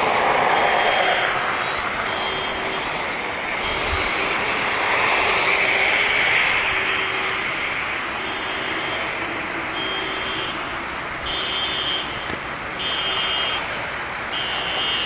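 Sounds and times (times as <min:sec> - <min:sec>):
traffic roar: 0:00.0 - 0:15.0.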